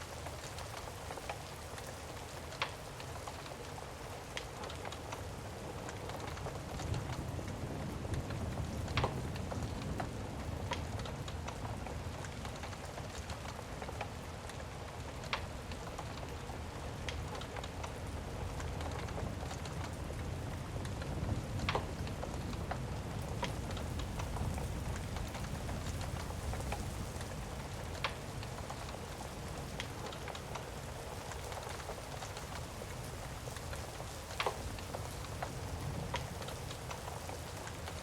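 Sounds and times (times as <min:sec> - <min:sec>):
heavy rain: 0:00.0 - 0:38.0
wood fire crackling: 0:00.0 - 0:38.0.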